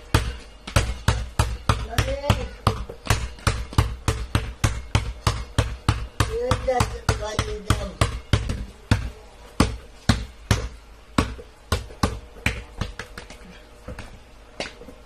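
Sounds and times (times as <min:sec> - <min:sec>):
basketball bouncing on hard floor: 0:00.0 - 0:15.0.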